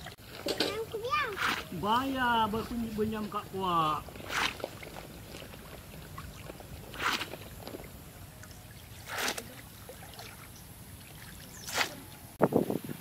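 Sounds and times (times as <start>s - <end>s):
water splashing: 0.0s - 12.3s.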